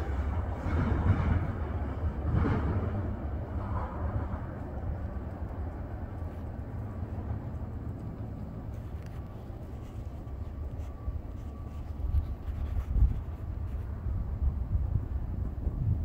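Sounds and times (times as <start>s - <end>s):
freight train rumble: 0.0s - 16.0s
wind buffeting microphone: 0.0s - 16.0s.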